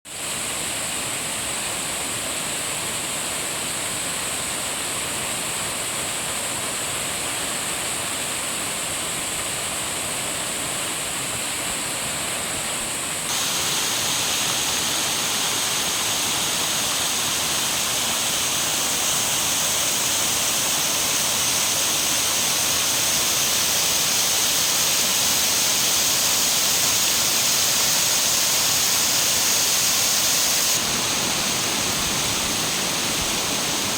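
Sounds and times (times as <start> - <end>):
waterfall rushing and splashing: 0.1 - 33.9.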